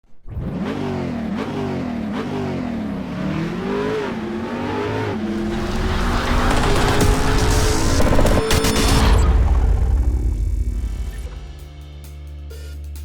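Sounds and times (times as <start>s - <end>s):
engine revving: 0.2s - 11.6s.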